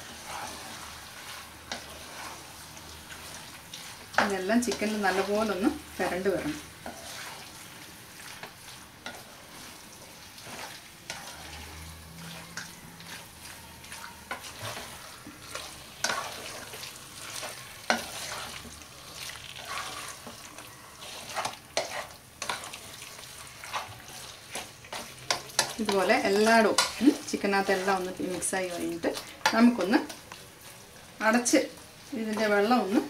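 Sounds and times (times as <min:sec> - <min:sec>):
spatula scraping a pan: 0:00.0 - 0:30.8
soft frying sizzle: 0:00.0 - 0:33.0.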